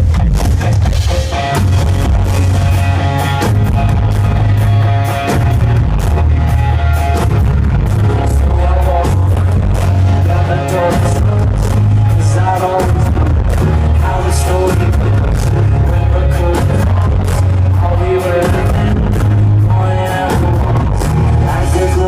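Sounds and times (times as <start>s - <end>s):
live rock-pop band playing: 0.0s - 22.0s
steady drum beat: 0.0s - 22.0s.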